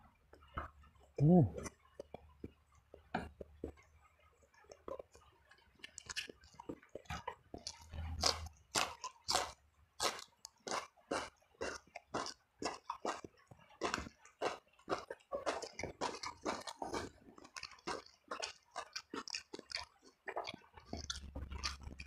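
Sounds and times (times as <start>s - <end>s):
person chewing food: 0.2s - 22.0s.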